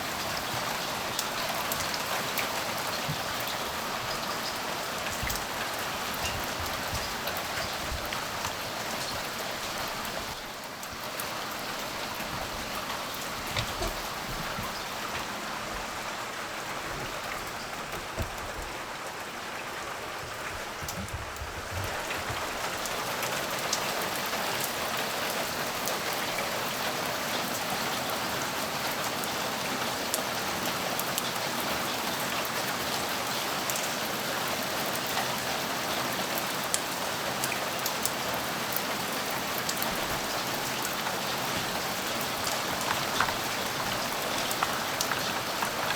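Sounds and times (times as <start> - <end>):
raindrops tapping: 0.0 - 28.2, 36.3 - 45.9
steady rain falling: 0.0 - 45.9.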